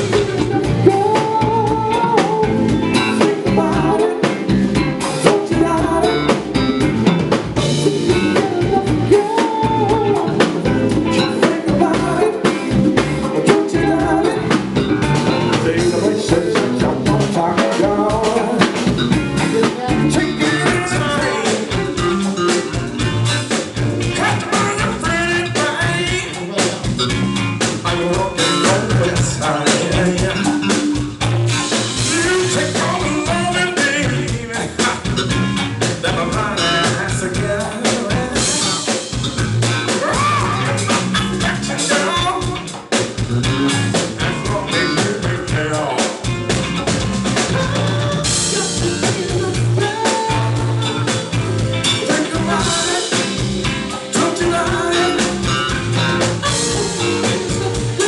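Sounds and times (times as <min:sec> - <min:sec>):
lead singer singing: 0:00.0 - 0:06.8, 0:07.6 - 0:27.0, 0:27.6 - 0:31.0, 0:31.9 - 0:35.2, 0:35.9 - 0:39.2, 0:39.9 - 0:42.9, 0:43.9 - 0:46.3, 0:47.4 - 0:58.0
band playing a song: 0:00.0 - 0:58.0
drum kit: 0:00.0 - 0:58.0.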